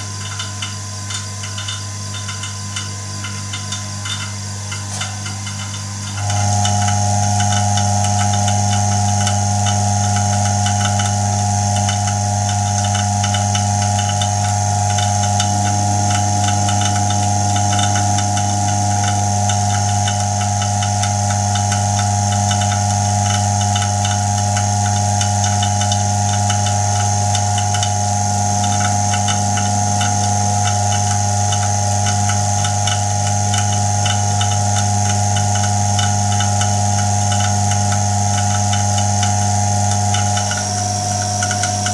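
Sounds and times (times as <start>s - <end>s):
low electrical hum: 0.0s - 41.9s
buzzing fast ticking: 4.9s - 41.9s.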